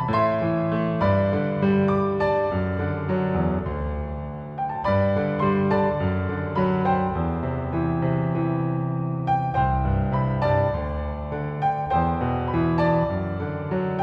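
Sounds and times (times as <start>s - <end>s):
gentle solo piano music: 0.0s - 14.0s.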